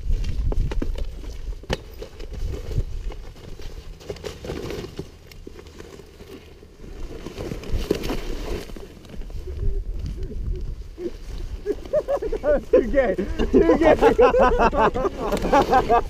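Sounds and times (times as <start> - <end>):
scuffling in dry dirt: 0.0 - 16.0
cardboard crumpling and scraping: 0.1 - 9.9, 10.9 - 16.0.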